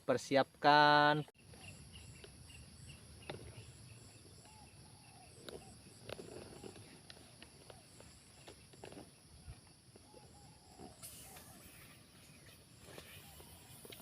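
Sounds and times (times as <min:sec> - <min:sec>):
insects chirping and buzzing: 0:00.1 - 0:14.0
pulsing insect chirp: 0:01.4 - 0:14.0.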